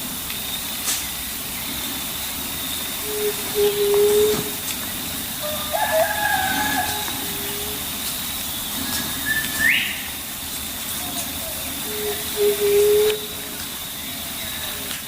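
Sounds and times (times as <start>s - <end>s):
steady hiss: 0.0s - 15.0s
whistled bird calls: 0.4s - 15.0s.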